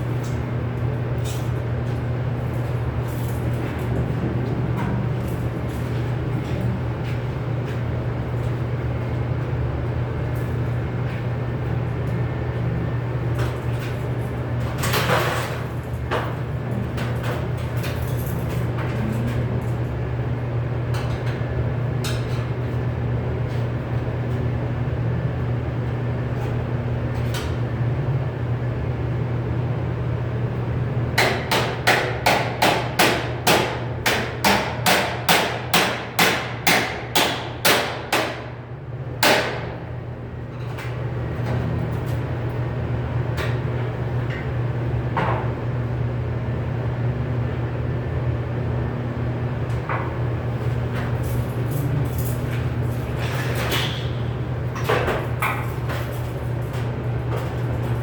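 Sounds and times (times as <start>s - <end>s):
low machinery hum: 0.0s - 58.0s.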